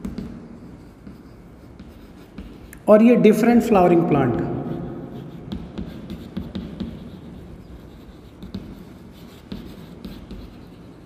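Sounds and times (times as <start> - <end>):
chalk tapping and scratching: 0.0 - 2.9, 3.5 - 11.0.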